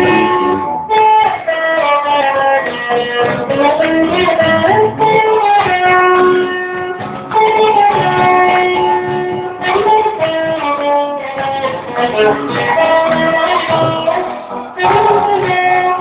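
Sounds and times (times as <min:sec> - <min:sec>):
band music: 0:00.0 - 0:16.0
guitar playing long held notes: 0:00.0 - 0:16.0.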